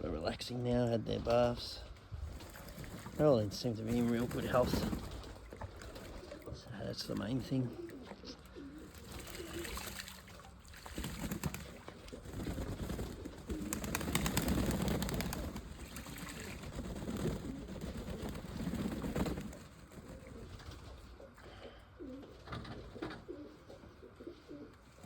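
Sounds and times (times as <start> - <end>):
pigeons cooing: 0.1 - 25.0.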